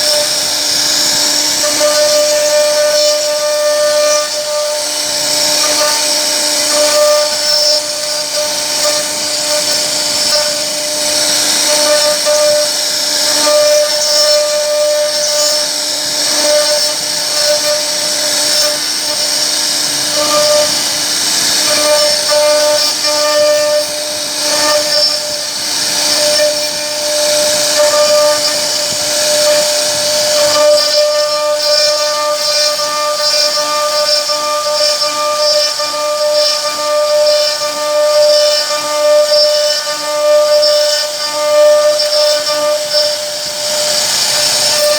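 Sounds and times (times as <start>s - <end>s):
router spindle cutting wood: 0.0s - 44.9s.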